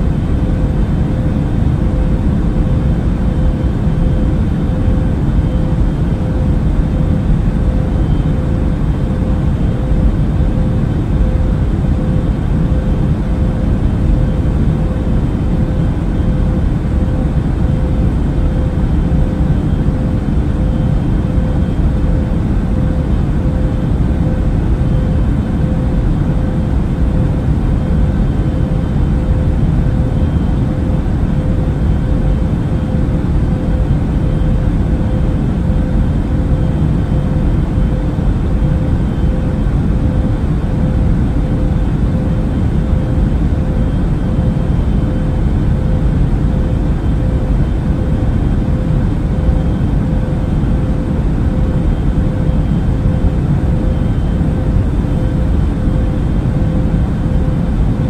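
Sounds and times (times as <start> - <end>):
airliner engine and airflow rumble: 0.0 - 58.0
faint steady hum: 0.0 - 58.0.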